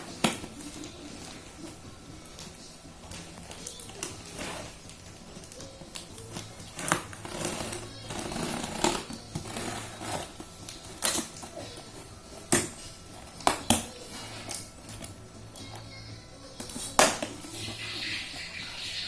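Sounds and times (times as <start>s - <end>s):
laptop and packaging being handled: 0.0s - 15.6s.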